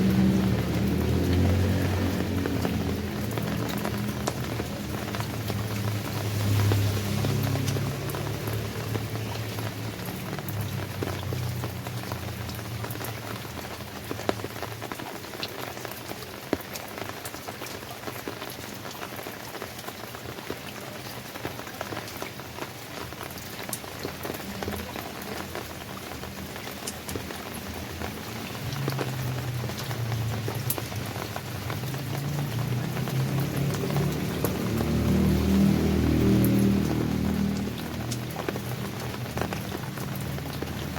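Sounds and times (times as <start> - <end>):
rain falling on a surface: 0.0 - 40.9
raindrops ticking: 0.0 - 40.9.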